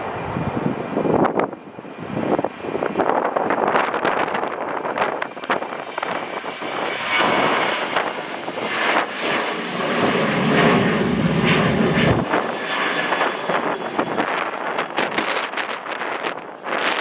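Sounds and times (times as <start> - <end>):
airliner engines passing: 0.0 - 17.0
wind buffeting microphone: 0.0 - 17.0.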